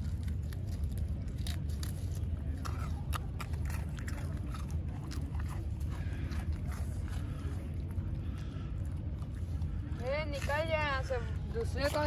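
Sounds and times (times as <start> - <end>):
puppies crunching biscuits: 0.0 - 12.0
steady low rumble: 0.0 - 12.0.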